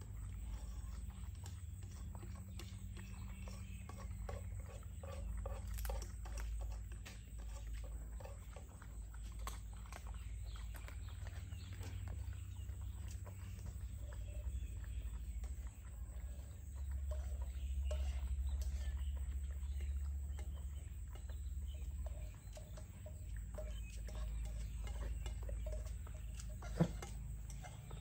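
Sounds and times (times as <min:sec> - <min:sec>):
dogs chewing food: 0:00.0 - 0:28.0
clicks of food and bowl: 0:00.5 - 0:28.0.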